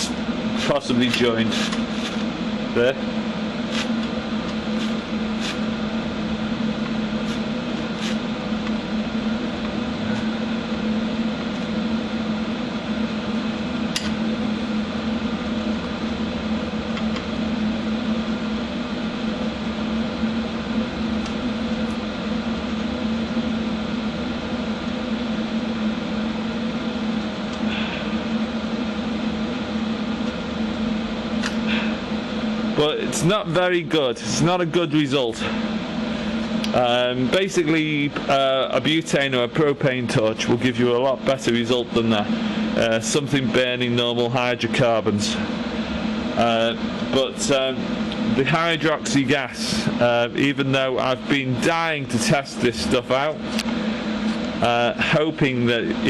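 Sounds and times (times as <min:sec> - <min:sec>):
welding machine humming: 0:00.0 - 0:56.0.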